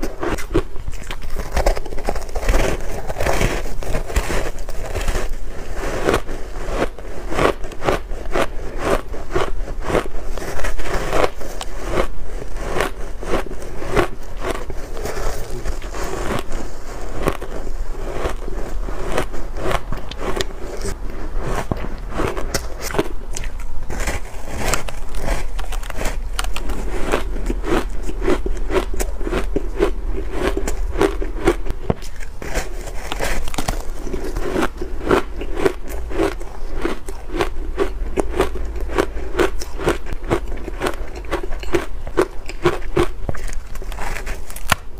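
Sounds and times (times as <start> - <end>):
crunching shaved ice: 0.0 - 44.9.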